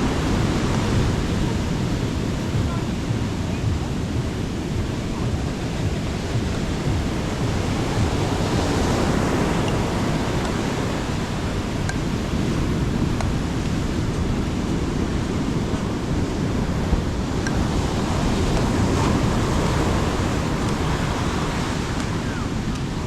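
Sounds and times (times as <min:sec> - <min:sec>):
sea waves breaking on beach: 0:00.0 - 0:23.0
wind on microphone: 0:00.0 - 0:23.0.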